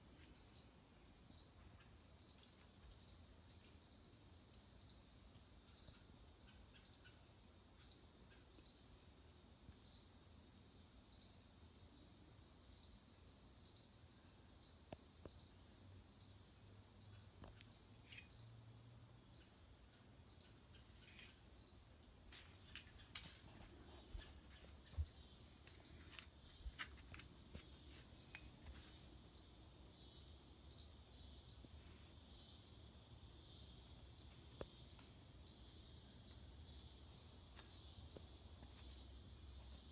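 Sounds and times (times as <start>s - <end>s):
high insect trill: 0.0s - 39.9s
insect chirping: 0.0s - 39.9s.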